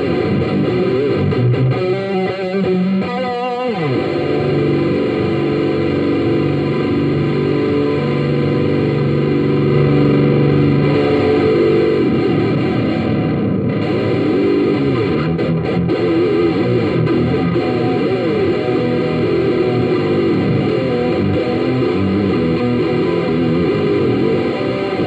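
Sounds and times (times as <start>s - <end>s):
distorted electric guitar: 0.0s - 25.0s.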